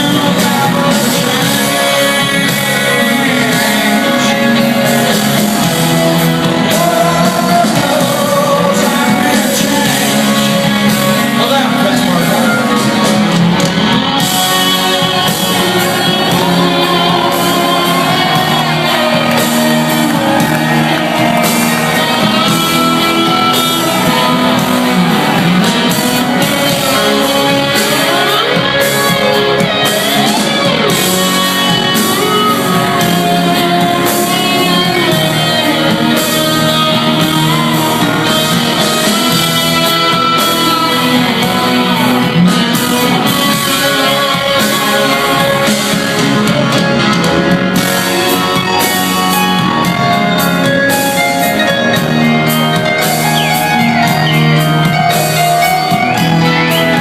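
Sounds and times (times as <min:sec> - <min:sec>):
person singing or shouting: 0:00.0 - 0:46.9
electric guitar bending notes: 0:00.0 - 0:57.0
rock band playing loudly: 0:00.0 - 0:57.0.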